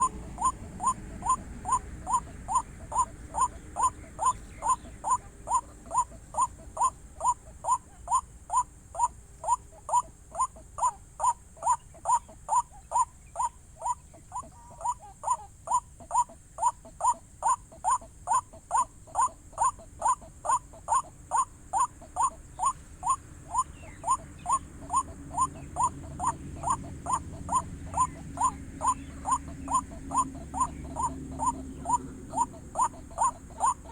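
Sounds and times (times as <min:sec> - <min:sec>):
waterhen calling: 0:00.0 - 0:33.9.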